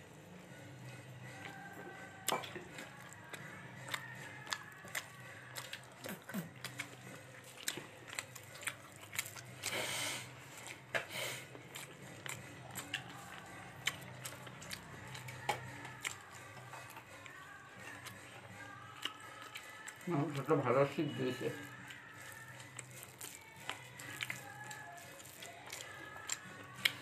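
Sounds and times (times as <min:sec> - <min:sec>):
person chewing food: 0:00.5 - 0:27.0.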